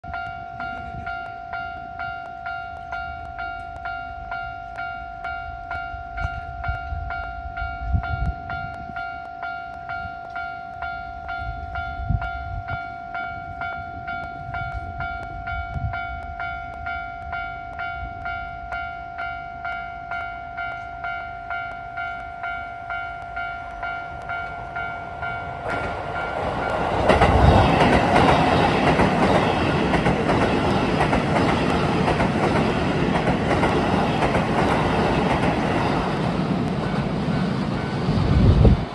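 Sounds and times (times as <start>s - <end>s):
crossing bell dinging: 0.0s - 38.2s
electric train passing: 0.1s - 38.9s.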